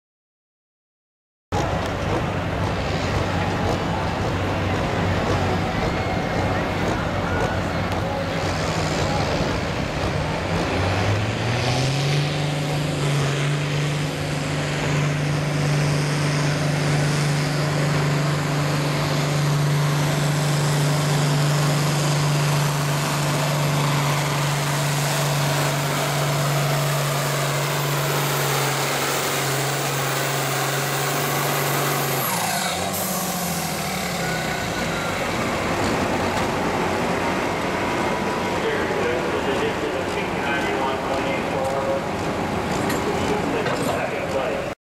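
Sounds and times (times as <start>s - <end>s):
diesel tractor engine under load: 1.5s - 44.8s.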